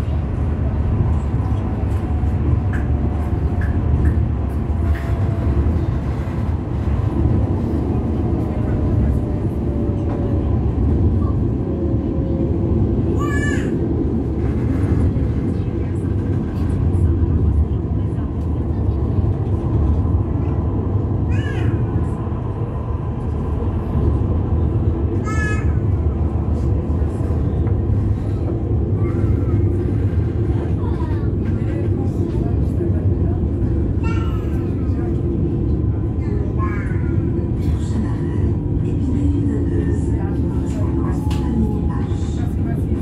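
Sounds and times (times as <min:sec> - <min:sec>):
tram rumbling along track: 0:00.0 - 0:43.0.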